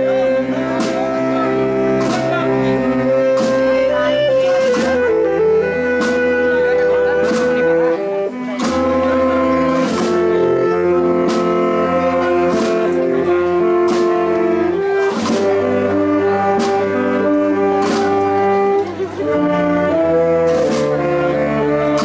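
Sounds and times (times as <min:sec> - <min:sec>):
percussion strokes: 0:00.0 - 0:22.0
wind band playing slow march: 0:00.0 - 0:22.0.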